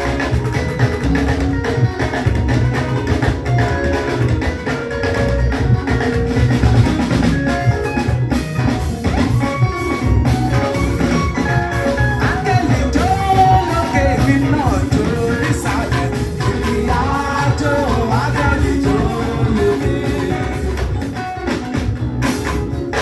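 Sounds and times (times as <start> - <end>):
drum kit: 0.0 - 23.0
live church band music: 0.0 - 23.0.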